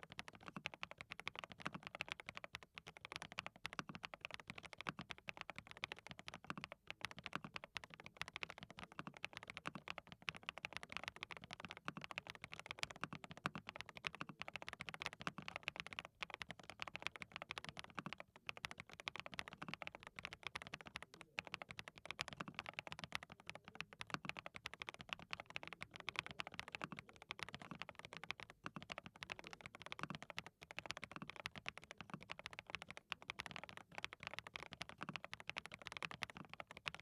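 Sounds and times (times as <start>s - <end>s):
rapid keyboard typing: 0.0s - 37.0s.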